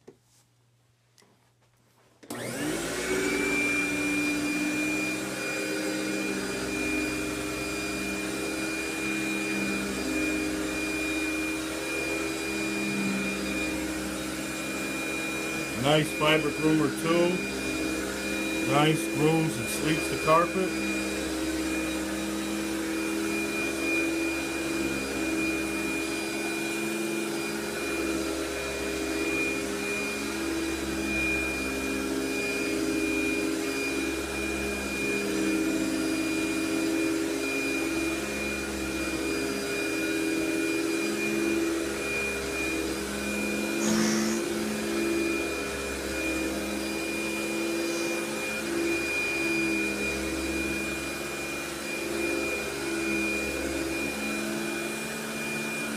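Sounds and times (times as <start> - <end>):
vacuum cleaner motor whine: 2.2 - 55.9.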